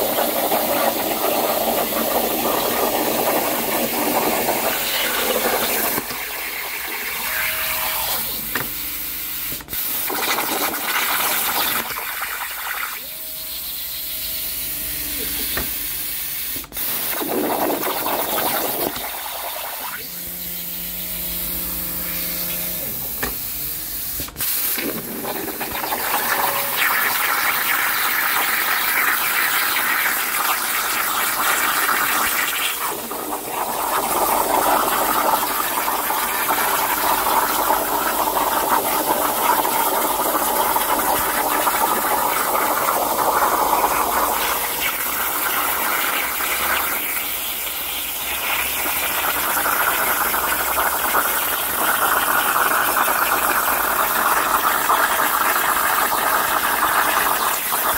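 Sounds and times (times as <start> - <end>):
plasma cutter arc hissing: 0.0 - 57.9.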